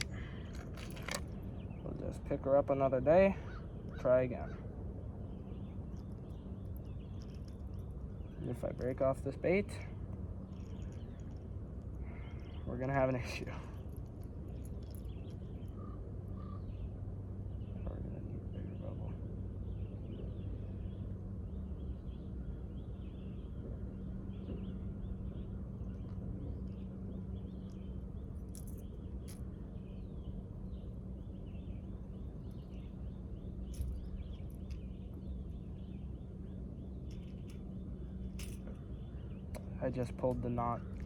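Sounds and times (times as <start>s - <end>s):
low hum and drone: 0.0s - 41.0s
small birds chirping: 0.0s - 41.0s.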